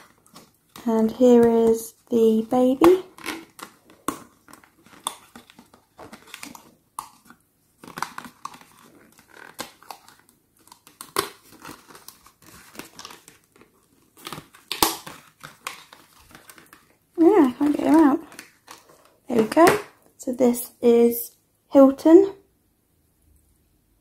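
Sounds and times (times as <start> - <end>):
cardboard rustling and crinkling: 0.0 - 20.0.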